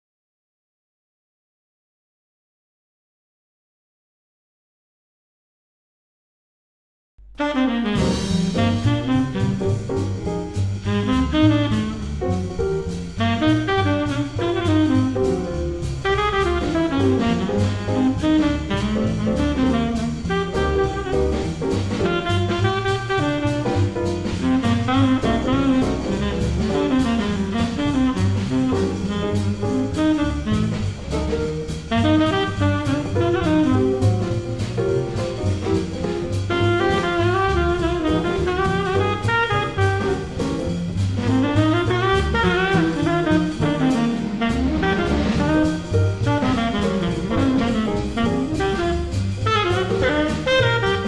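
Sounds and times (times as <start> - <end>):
upright bass walking: 7.3 - 51.0
drum kit with ride cymbal: 7.4 - 51.0
tenor saxophone lead: 7.4 - 51.0.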